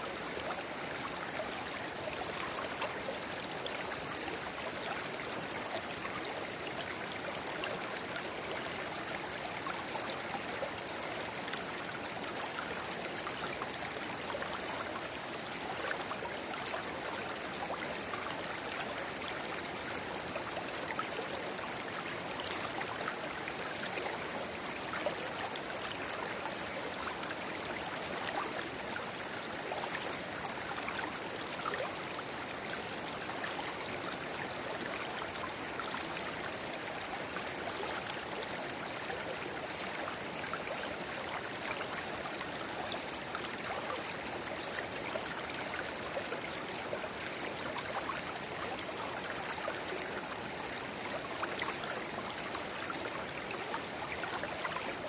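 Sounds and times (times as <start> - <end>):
river babbling: 0.0 - 55.0.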